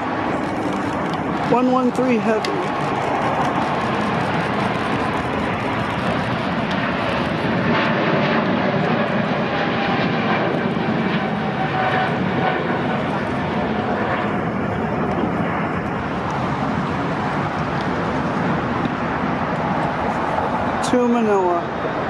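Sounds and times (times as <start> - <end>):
jet engines rumbling with whine: 0.0 - 22.0.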